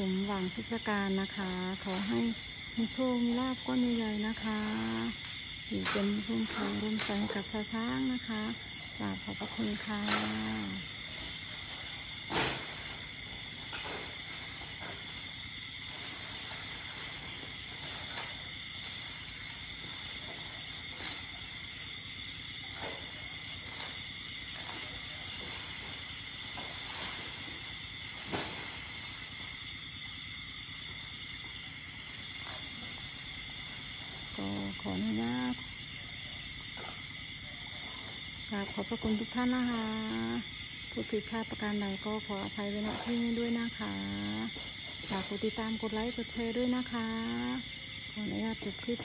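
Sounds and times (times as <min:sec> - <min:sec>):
night insects droning: 0:00.0 - 0:49.0.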